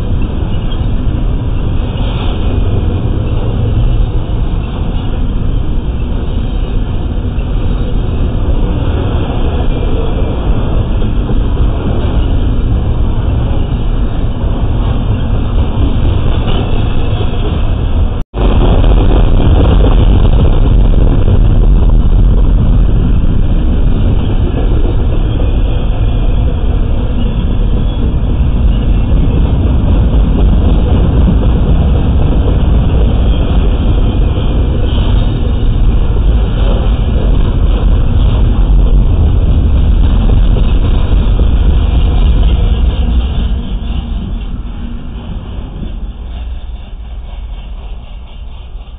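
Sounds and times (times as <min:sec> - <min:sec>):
freight train wheels clattering on rail: 0:00.0 - 0:48.9.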